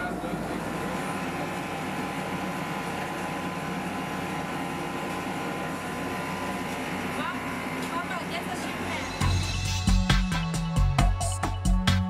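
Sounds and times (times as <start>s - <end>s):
kitchen machinery humming: 0.0s - 10.0s.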